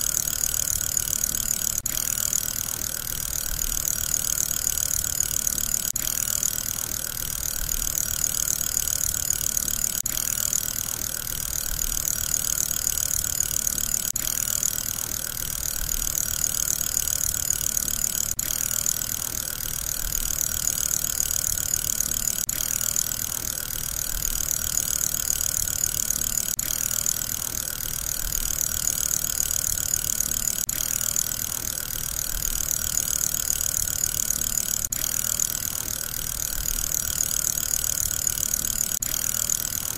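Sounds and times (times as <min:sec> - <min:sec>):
fidget spinner whirring: 0:00.0 - 0:39.9.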